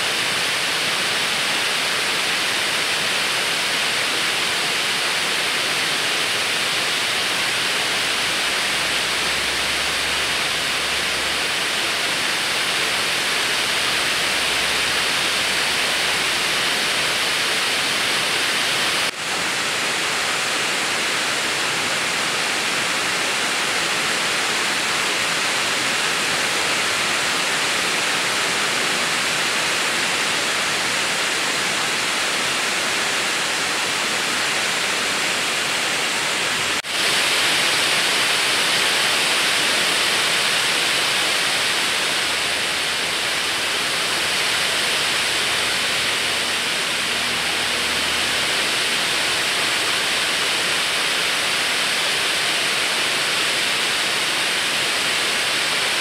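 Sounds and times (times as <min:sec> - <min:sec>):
steady even hiss: 0:00.0 - 0:56.0.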